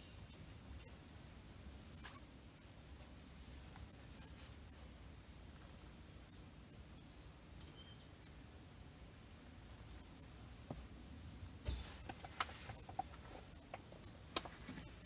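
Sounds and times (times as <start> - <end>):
insect chirping: 0.0 - 4.5, 5.1 - 14.1.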